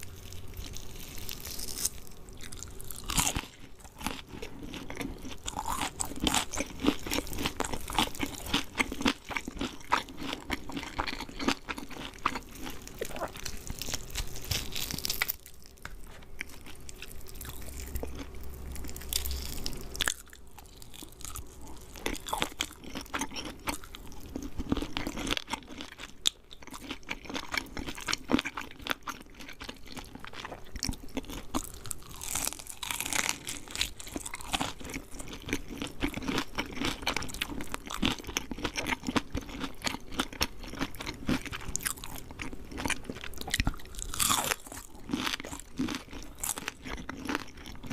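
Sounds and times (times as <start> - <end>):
crunching fried chicken: 0.0 - 47.9
mouth chewing: 0.0 - 47.9.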